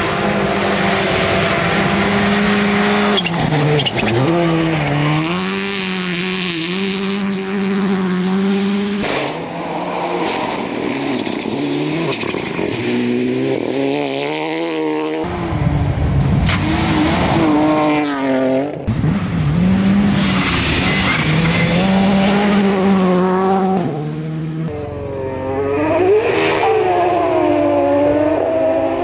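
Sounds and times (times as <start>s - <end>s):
rally car engines revving: 0.0s - 29.0s.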